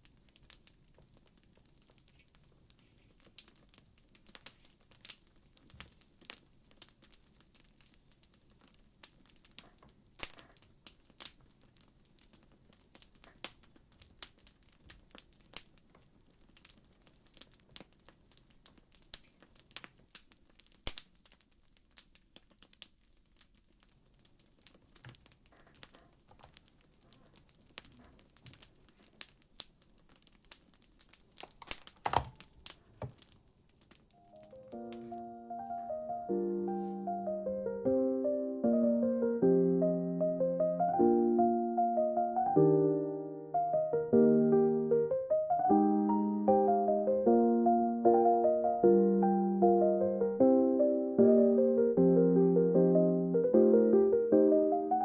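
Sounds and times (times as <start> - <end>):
faint crackling wood fire: 0.0 - 55.0.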